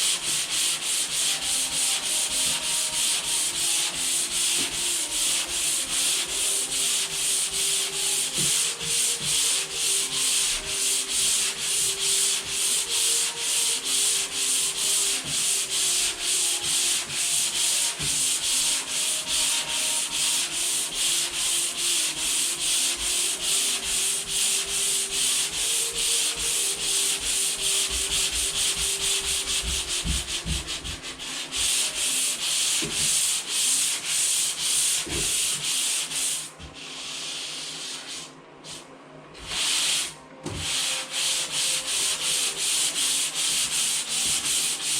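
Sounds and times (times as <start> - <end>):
sandpaper scraping drywall compound: 0.0 - 44.9.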